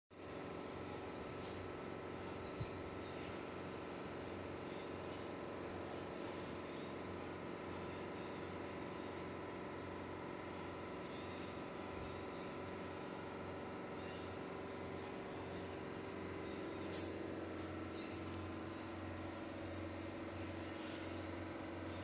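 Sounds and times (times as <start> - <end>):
steady hum with tones: 0.1 - 22.0.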